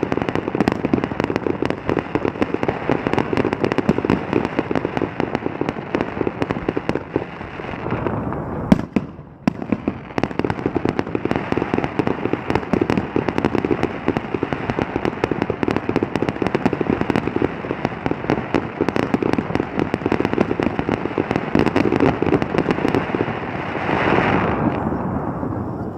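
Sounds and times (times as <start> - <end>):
fireworks popping and banging: 0.0 - 25.9.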